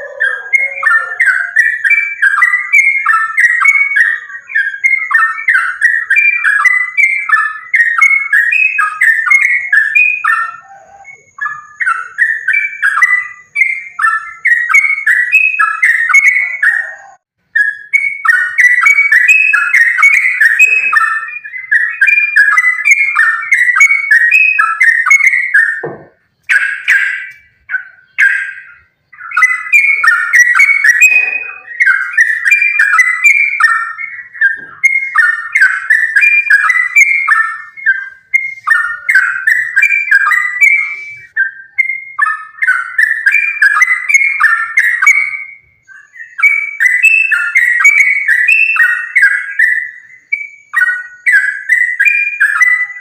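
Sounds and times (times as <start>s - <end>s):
bulbul chattering song: 0.0s - 53.0s.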